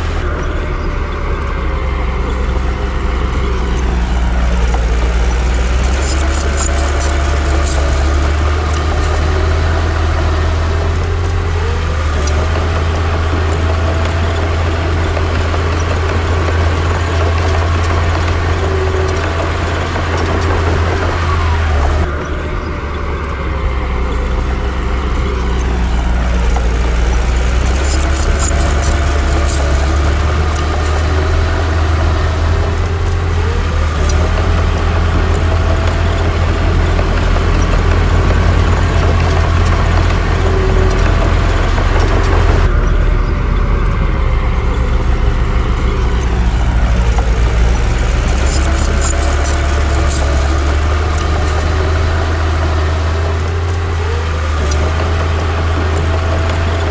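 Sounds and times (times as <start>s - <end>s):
heavy diesel engine droning: 0.0s - 56.9s
sharp clicks and clanks: 0.0s - 56.9s.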